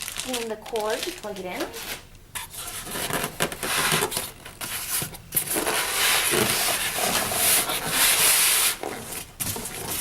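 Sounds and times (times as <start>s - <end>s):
styrofoam and cardboard scraping: 0.3s - 10.0s.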